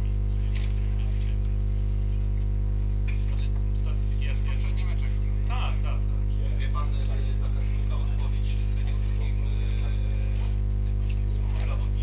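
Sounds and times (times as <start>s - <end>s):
electrical mains hum: 0.0s - 12.0s
room noise: 0.0s - 12.0s.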